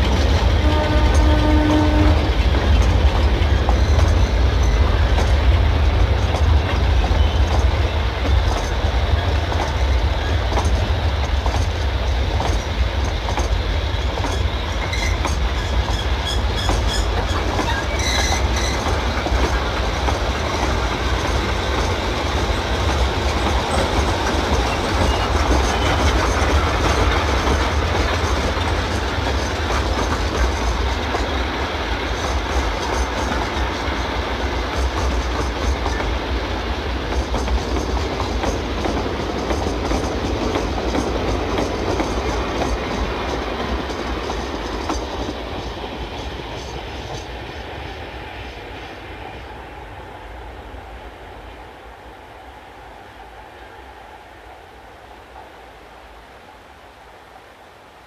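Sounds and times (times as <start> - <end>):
diesel locomotive heavy rumble: 0.0 - 48.4
rail noise: 0.0 - 58.0.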